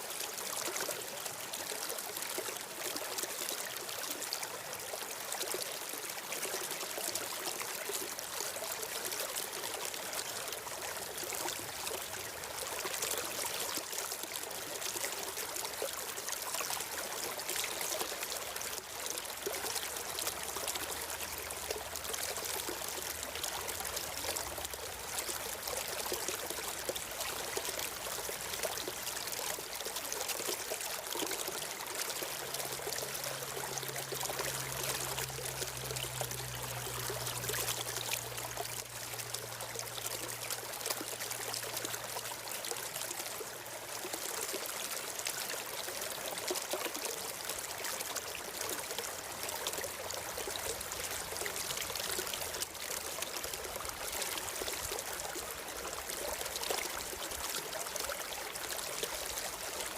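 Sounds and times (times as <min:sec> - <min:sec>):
stream of water flowing: 0:00.0 - 0:59.9.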